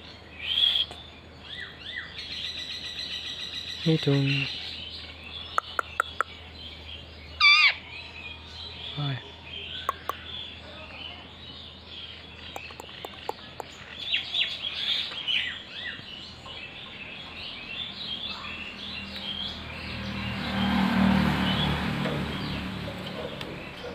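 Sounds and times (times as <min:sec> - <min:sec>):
birds chirping and calling: 0:00.0 - 0:23.9.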